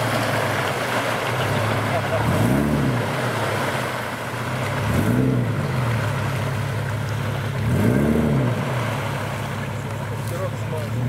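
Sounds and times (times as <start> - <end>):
truck engine revving: 0.0 - 11.0
water splashing: 0.0 - 11.0.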